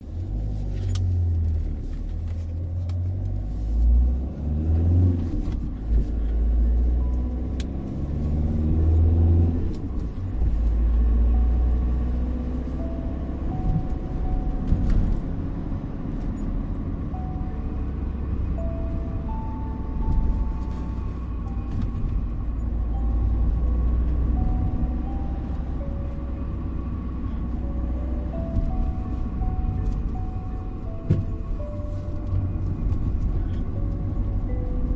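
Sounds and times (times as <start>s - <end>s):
car engine and road rumble: 0.0s - 34.9s
gentle melody: 0.2s - 34.9s.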